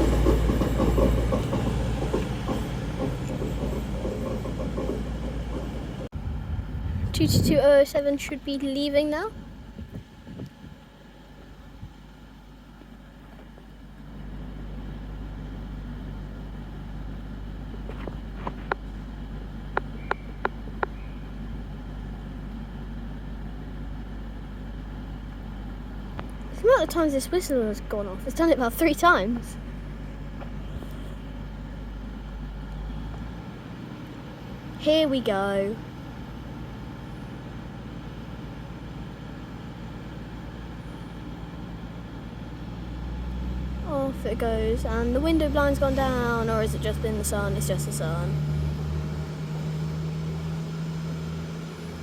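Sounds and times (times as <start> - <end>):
train diesel engines idling: 0.0 - 52.0.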